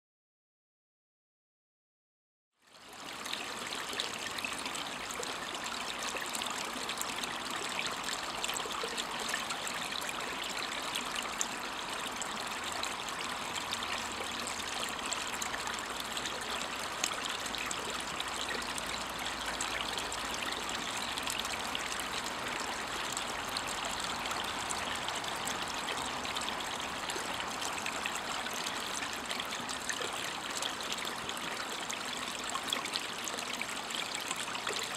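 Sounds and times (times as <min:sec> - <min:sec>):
brook babbling over rock: 0:02.7 - 0:34.9.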